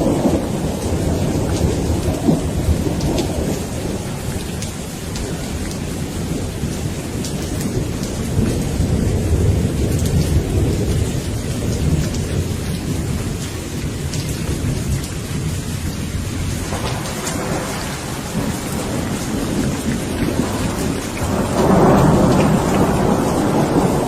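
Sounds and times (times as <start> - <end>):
low rolling thunder: 0.0 - 24.0
steady rain: 0.0 - 24.0.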